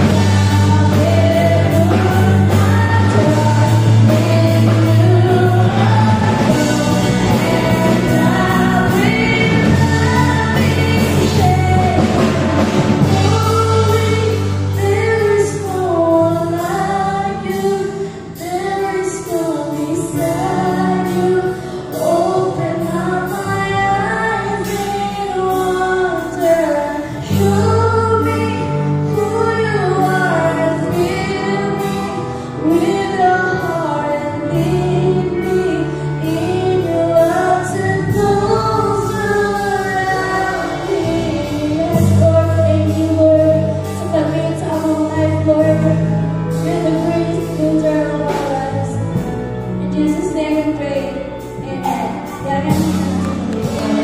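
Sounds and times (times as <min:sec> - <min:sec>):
woman singing: 0:00.0 - 0:54.0
worship band playing: 0:00.0 - 0:54.0.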